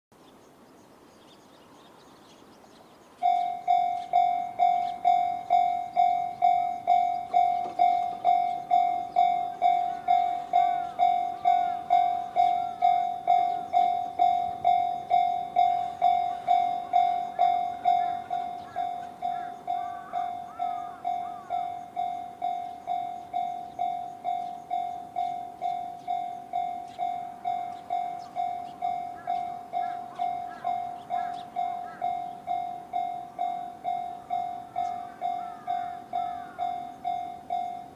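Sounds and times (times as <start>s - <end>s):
level-crossing alarm clanging: 3.2s - 37.9s.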